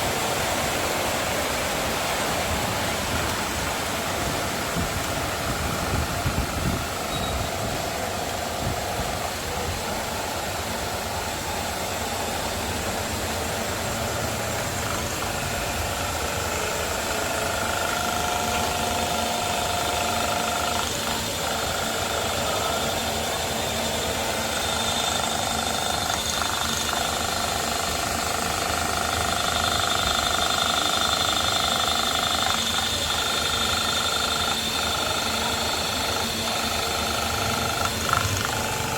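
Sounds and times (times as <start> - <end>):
high machining whine: 0.0 - 38.9
milling machine cutting: 0.8 - 38.9.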